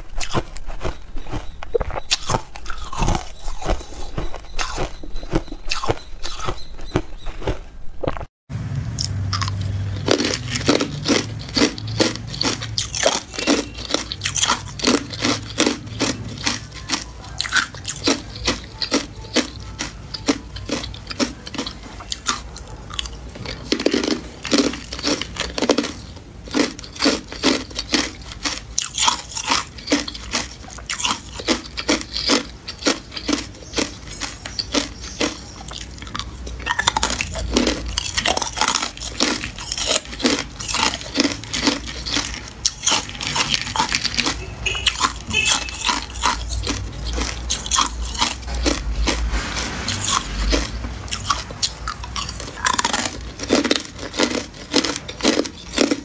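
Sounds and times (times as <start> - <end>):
ice cubes crunched by teeth: 0.0 - 8.2, 9.4 - 56.0.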